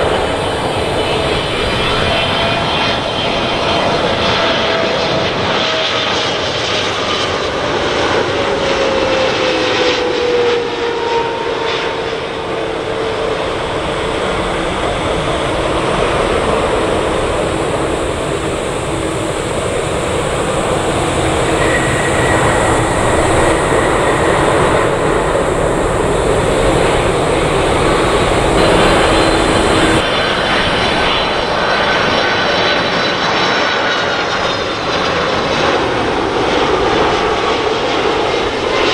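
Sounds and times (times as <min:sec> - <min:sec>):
jet engine noise with whine: 0:00.0 - 0:38.9.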